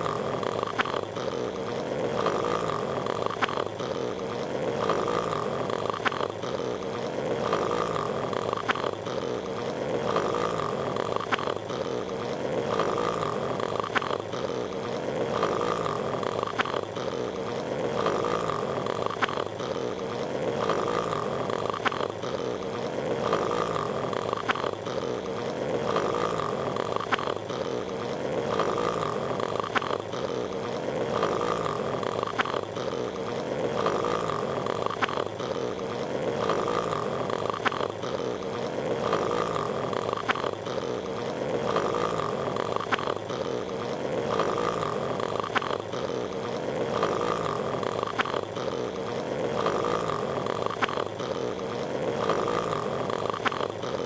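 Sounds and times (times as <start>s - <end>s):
cartoon snoring: 0.0s - 54.0s.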